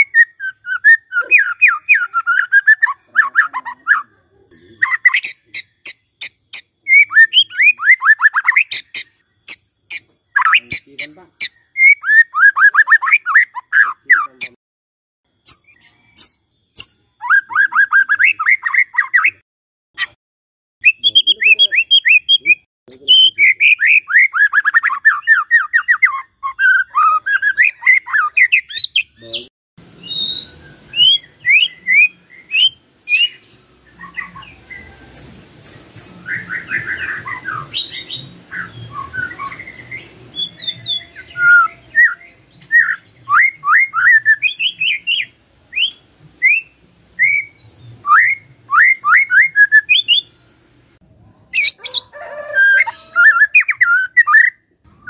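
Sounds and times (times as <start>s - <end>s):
bird singing whistled notes: 0.0s - 14.2s, 15.4s - 19.4s, 20.8s - 50.8s, 51.6s - 55.0s.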